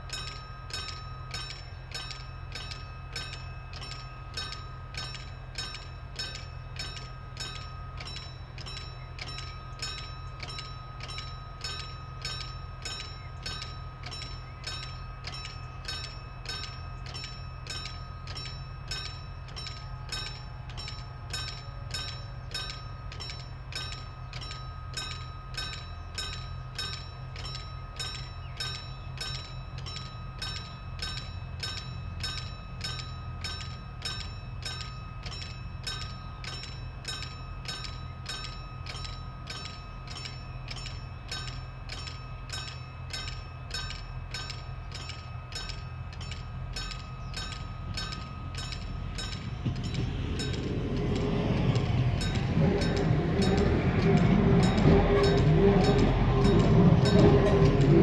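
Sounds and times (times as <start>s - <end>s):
diesel train engines droning: 0.0s - 58.0s
level crossing bell ringing: 0.0s - 58.0s.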